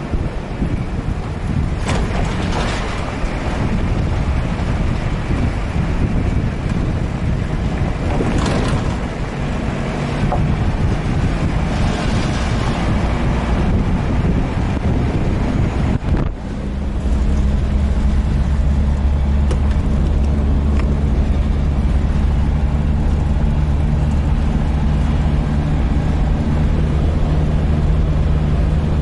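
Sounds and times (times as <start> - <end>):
jeep engine and road rumble: 0.0 - 29.0
wind buffeting microphone: 0.0 - 29.0.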